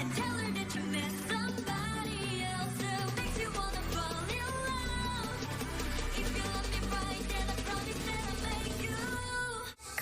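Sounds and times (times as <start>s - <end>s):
dance-pop song with female vocals: 0.0s - 10.0s.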